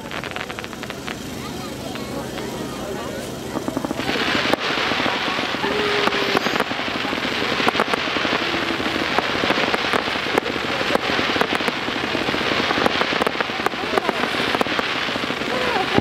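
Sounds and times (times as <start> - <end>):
fireworks crackling: 0.0 - 16.0
sharp firework pops: 0.0 - 16.0.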